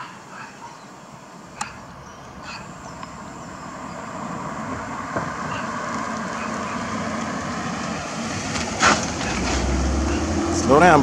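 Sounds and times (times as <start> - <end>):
car engine and tyre noise: 0.3 - 11.0.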